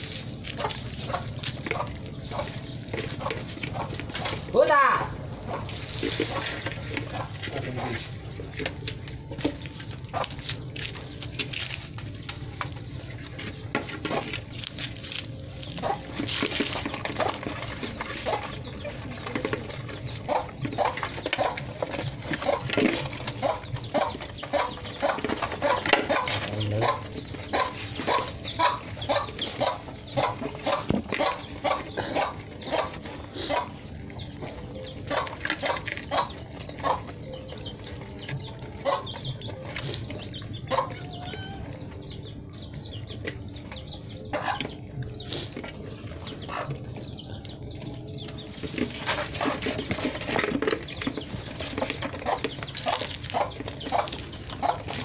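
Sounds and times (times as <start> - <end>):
puppies chewing and lapping: 0.0 - 4.5, 5.4 - 55.0
puppies clucking calls: 0.0 - 55.0.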